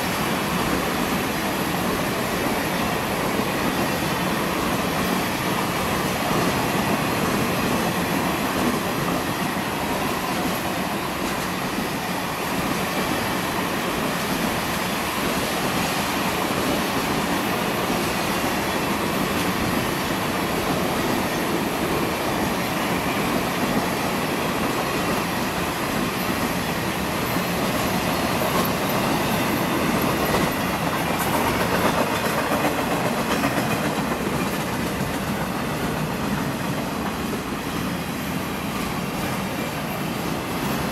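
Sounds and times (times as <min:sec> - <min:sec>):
train cars rolling on rails: 0:00.0 - 0:40.9.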